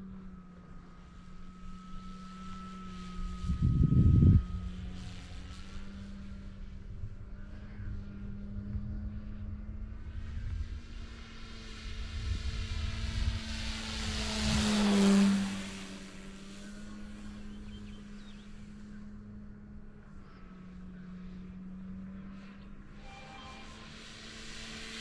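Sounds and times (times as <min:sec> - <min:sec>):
model plane motor droning: 0:00.0 - 0:25.0.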